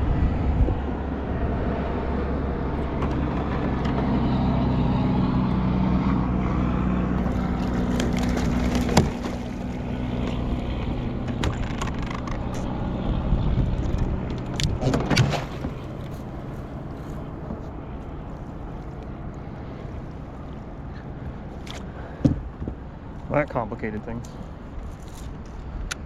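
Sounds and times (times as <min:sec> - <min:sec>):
boat motor running: 0:00.0 - 0:23.4.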